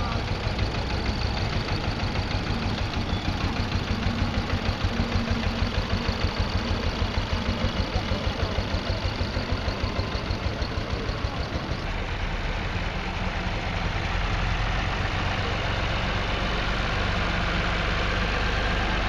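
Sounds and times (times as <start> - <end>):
tractor diesel engine chugging: 0.0 - 19.0.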